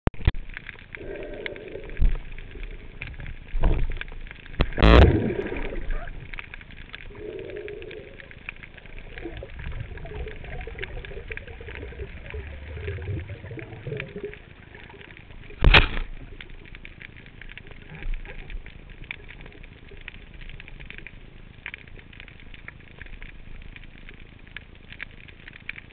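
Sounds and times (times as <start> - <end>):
underwater crackling hiss: 0.4 - 25.9.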